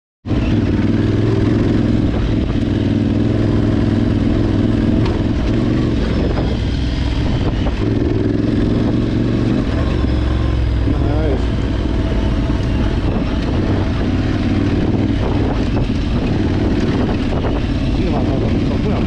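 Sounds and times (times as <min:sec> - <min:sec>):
motorcycle engine running: 0:00.2 - 0:19.0.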